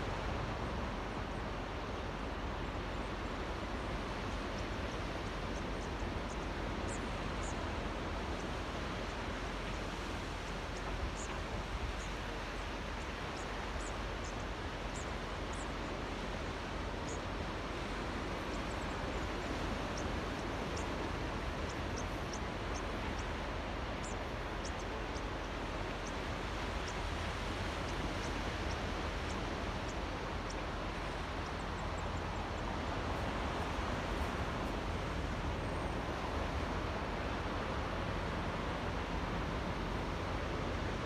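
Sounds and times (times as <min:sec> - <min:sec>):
waves lapping: 0:00.0 - 0:41.0.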